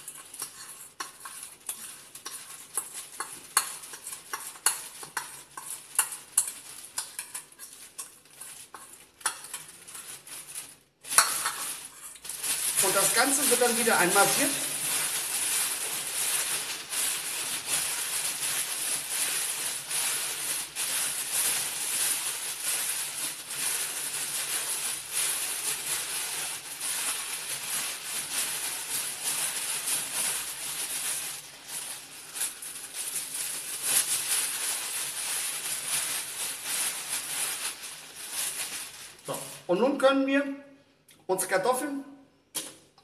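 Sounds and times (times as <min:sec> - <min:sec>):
plastic bag crinkling: 0:00.0 - 0:39.8.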